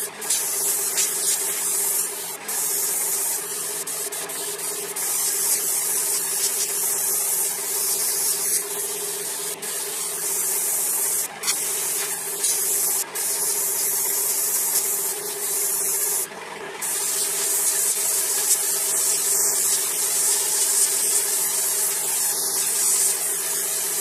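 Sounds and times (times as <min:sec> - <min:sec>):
airbrush hissing: 0:00.0 - 0:24.0.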